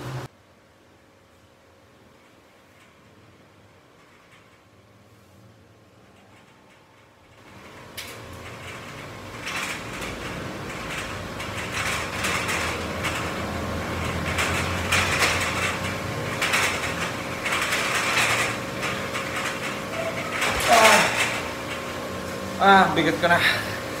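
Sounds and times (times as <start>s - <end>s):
metal pull-up bar rattling and creaking: 2.6s - 4.8s, 5.9s - 24.0s.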